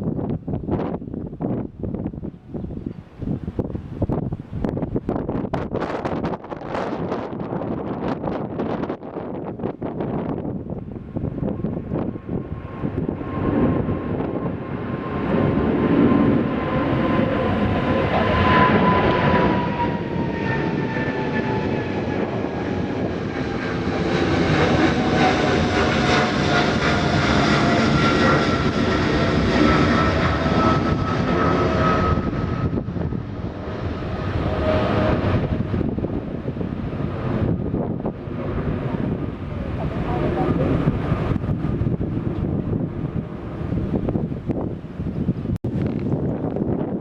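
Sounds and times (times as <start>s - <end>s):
jet engines passing: 0.0s - 47.0s.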